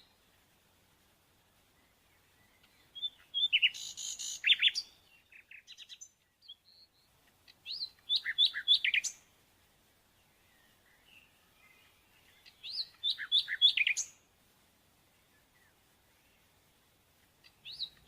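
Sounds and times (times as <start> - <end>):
small birds chirping: 1.6 - 18.0.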